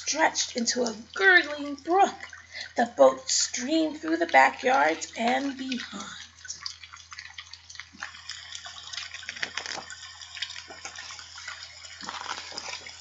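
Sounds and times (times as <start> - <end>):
low electrical hum: 0.0 - 13.0
water trickling and dripping: 0.0 - 13.0.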